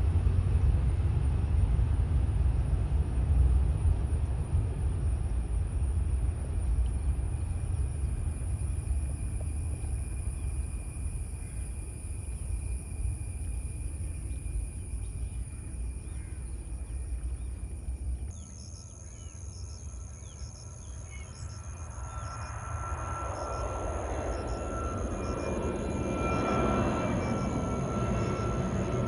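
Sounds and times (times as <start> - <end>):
jet engine rumble: 0.0 - 29.0
insect chirping: 3.8 - 29.0.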